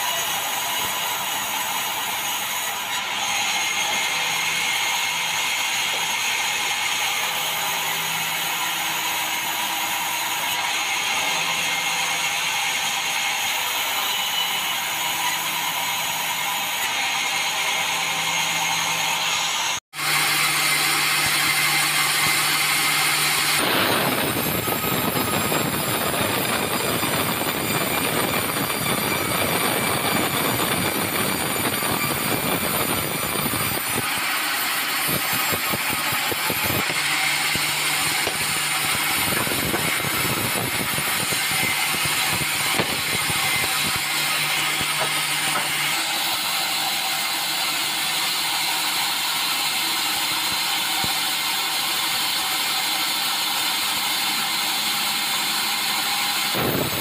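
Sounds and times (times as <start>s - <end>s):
band sawmill blade cutting log: 0.0s - 57.0s.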